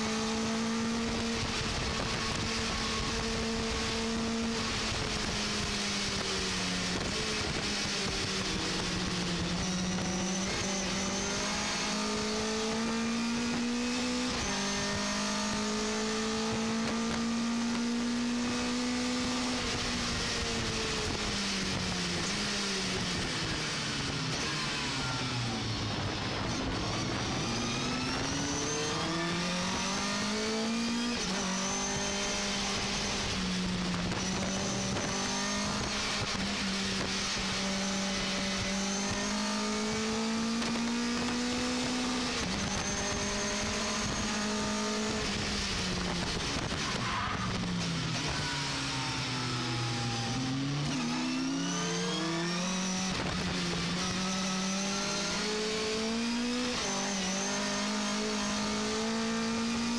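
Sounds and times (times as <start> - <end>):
race engine revving under load: 0.0 - 59.9.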